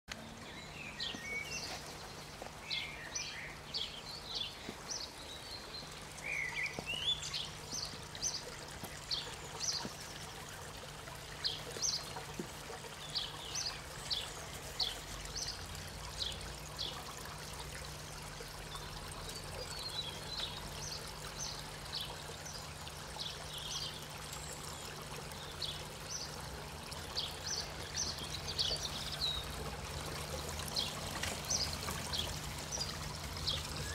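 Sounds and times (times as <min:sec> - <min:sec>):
water trickling into pond: 0:00.1 - 0:33.9.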